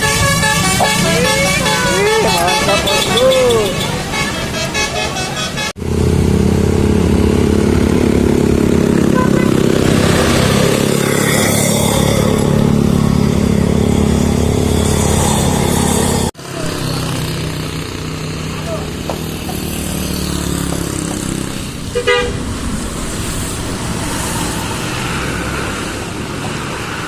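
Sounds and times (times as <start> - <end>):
vehicle engine droning: 0.0 - 27.0.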